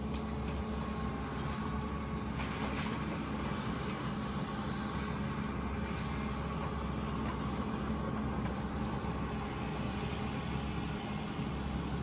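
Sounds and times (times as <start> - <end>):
demolition machinery engine droning: 0.0 - 12.0.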